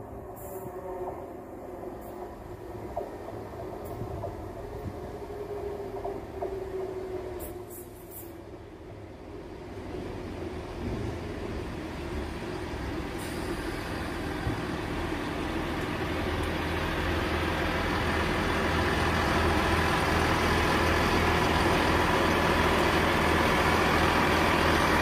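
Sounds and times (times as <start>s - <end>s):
diesel train engines droning: 0.0s - 25.0s
train wheels rumbling on rail: 0.0s - 25.0s.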